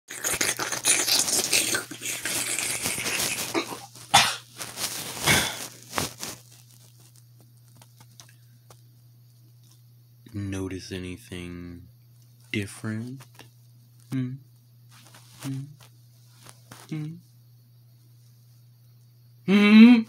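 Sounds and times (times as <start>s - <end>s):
faint low hum: 0.1s - 20.0s.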